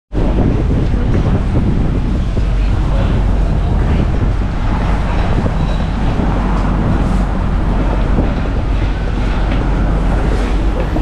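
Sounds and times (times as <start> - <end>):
subway train rumbling: 0.1 - 11.0.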